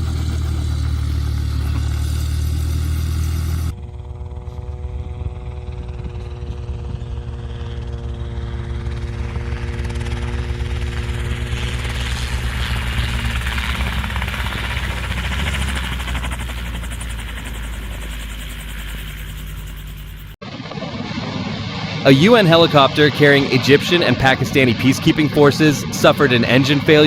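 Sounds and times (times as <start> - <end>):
helicopter engine hum: 0.0 - 27.0
helicopter rotor rushing: 0.0 - 27.0.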